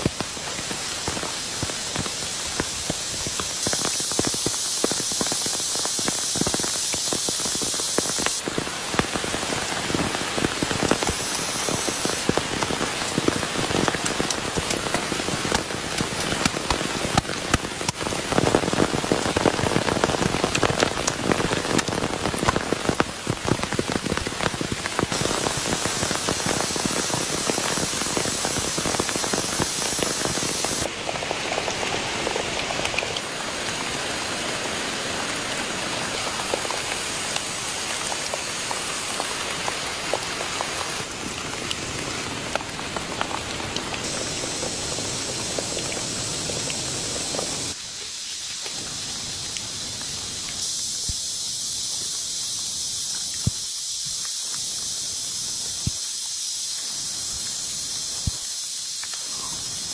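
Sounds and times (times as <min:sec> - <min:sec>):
heavy rain falling: 0:00.0 - 0:59.9
raindrops hitting a surface: 0:00.0 - 0:59.9.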